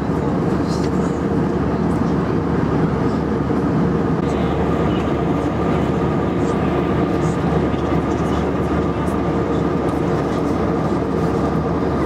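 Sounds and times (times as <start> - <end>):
faint hum of engine tones: 0.0 - 12.0
jet engines and rushing air roar: 0.0 - 12.0.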